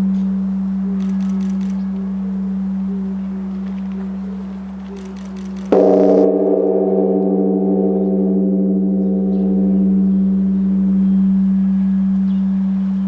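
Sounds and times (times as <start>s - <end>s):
large bronze temple bell ringing: 0.0s - 4.8s, 5.7s - 13.0s.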